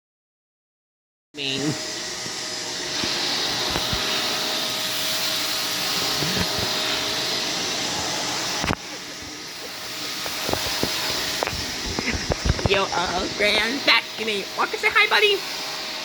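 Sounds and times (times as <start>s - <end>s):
vacuum cleaner running: 1.4s - 16.0s.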